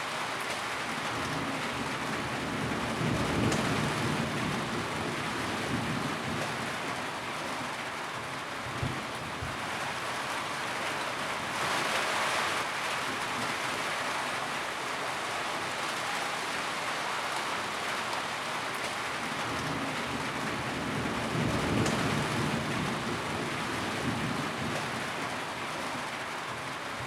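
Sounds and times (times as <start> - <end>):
heavy rain on a tin roof: 0.0 - 27.0.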